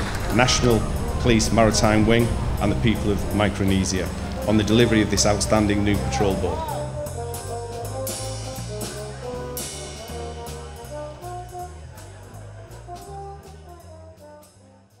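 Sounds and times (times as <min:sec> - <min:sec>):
instrumental background music: 0:00.0 - 0:15.0.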